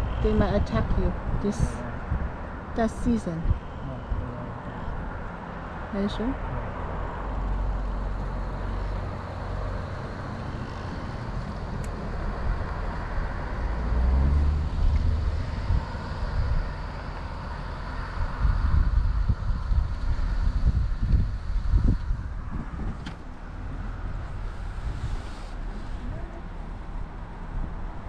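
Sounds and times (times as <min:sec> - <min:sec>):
wind buffeting microphone: 0:00.0 - 0:05.5, 0:06.4 - 0:26.3
road traffic noise: 0:00.0 - 0:28.0
vehicle passing with low rumble: 0:00.0 - 0:28.0.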